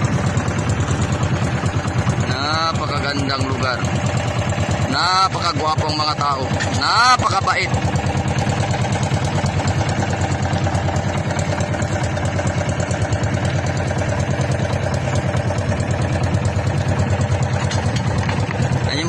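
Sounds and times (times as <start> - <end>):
small boat engine running: 0.0 - 19.0.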